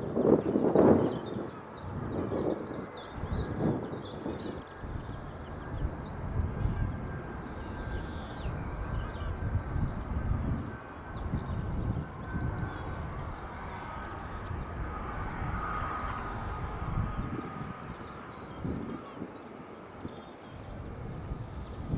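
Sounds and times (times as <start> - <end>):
distant jet engines rumbling: 1.6 - 21.9.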